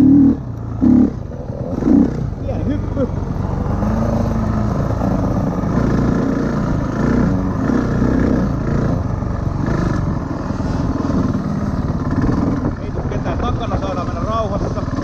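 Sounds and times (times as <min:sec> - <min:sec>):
dirt bike engine revving: 0:00.0 - 0:13.4.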